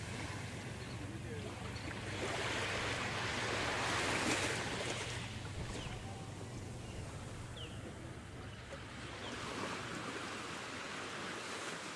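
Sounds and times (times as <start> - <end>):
waves breaking on a beach: 0.0 - 11.9.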